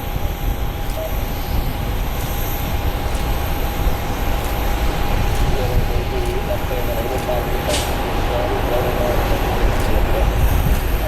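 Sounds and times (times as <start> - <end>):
faint steady whine: 0.0 - 11.0
jet engine rumble: 0.0 - 11.0.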